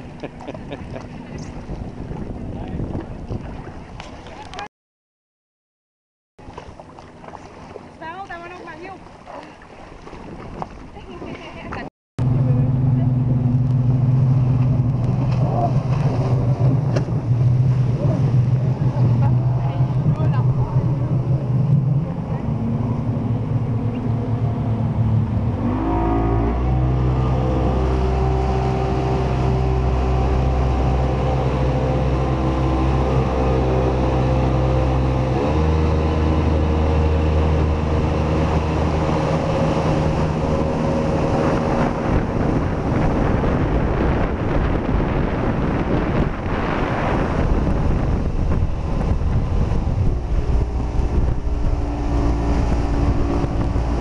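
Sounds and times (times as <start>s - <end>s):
jet ski engine running: 0.0s - 4.7s, 6.4s - 54.0s
rushing wind and water: 0.0s - 4.7s, 6.4s - 54.0s.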